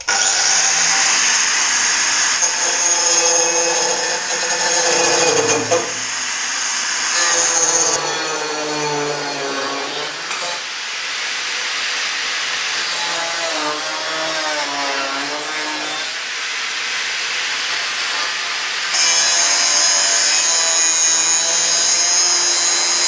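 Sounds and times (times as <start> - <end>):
angle grinder cutting steel: 0.0 - 23.0.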